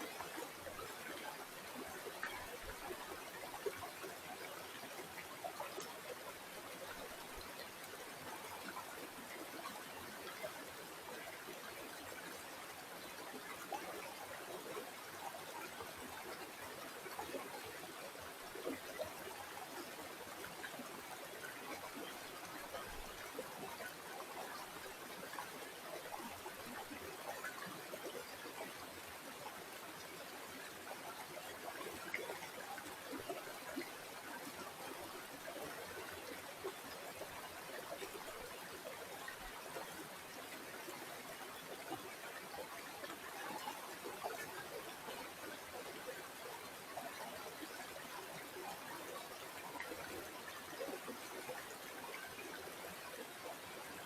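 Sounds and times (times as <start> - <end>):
river water babbling: 0.0 - 54.0.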